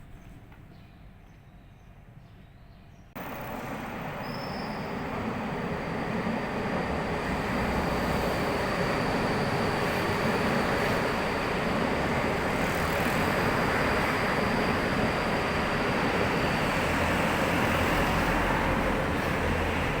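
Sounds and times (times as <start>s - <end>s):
electric train running past: 3.2s - 20.0s.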